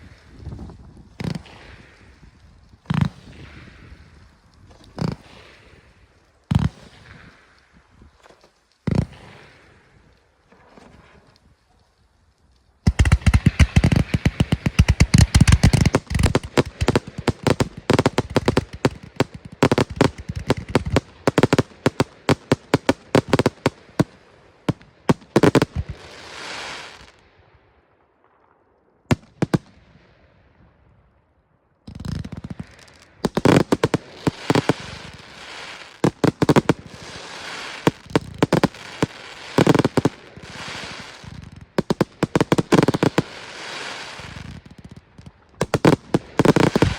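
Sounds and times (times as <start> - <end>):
fireworks hiss: 0.0 - 11.1, 12.9 - 27.2, 31.9 - 44.9, 45.6 - 46.9
fireworks bangs and crackling: 0.0 - 11.5, 12.8 - 30.8, 31.9 - 46.9.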